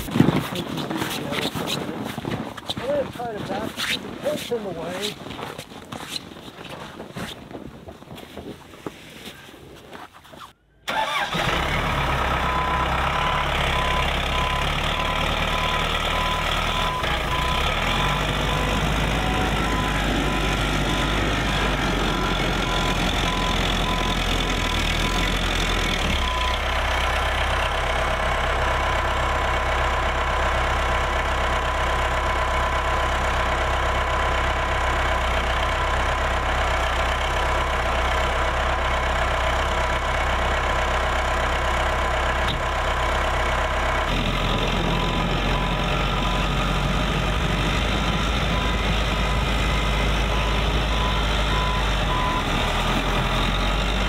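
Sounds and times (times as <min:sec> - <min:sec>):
engine running with high whine: 0:10.7 - 0:54.0.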